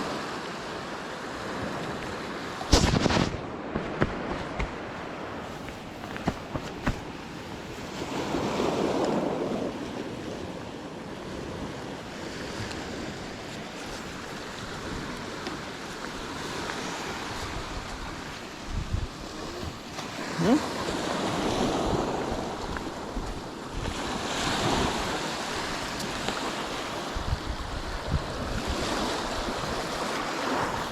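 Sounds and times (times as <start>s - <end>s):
sea waves breaking: 0.0s - 30.9s
wind buffeting microphone: 1.4s - 30.9s.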